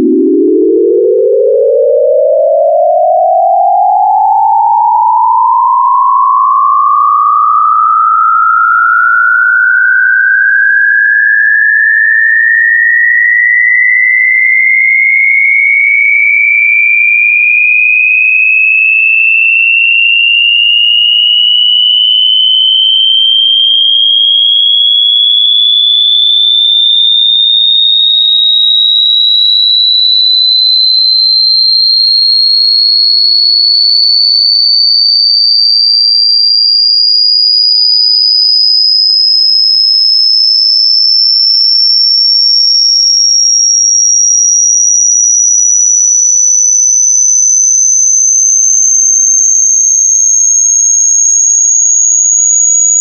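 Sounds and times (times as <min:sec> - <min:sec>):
rising electronic sine tone: 0:00.0 - 0:53.0.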